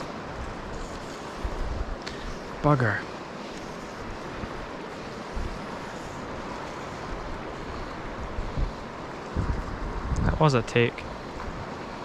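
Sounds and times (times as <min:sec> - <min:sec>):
river water flowing: 0:00.0 - 0:12.0
wind buffeting microphone: 0:00.0 - 0:12.0.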